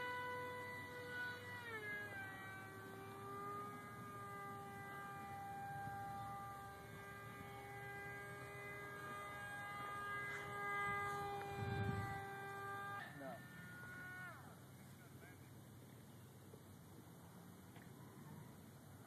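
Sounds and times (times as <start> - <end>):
model airplane motor droning: 0.0 - 19.0.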